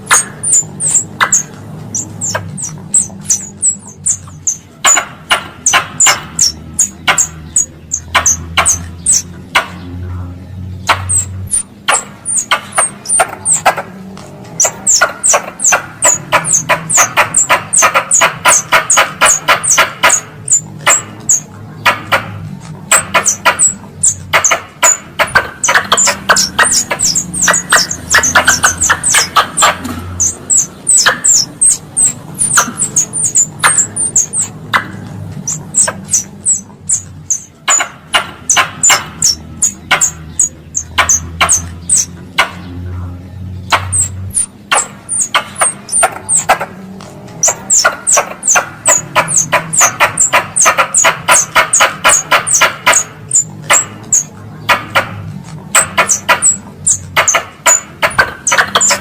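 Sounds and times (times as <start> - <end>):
squirrel chirping and rattling: 0.0 - 10.0, 10.6 - 42.8, 43.5 - 59.0.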